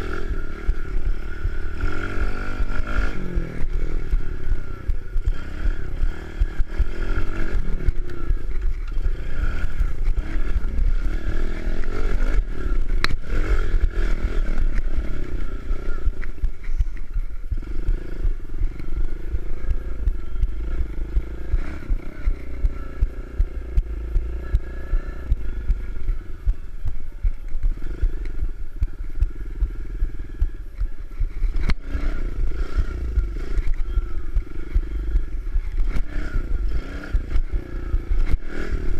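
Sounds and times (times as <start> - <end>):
motorbike engine revving: 0.0 - 38.9
sharp clicks: 0.0 - 38.9.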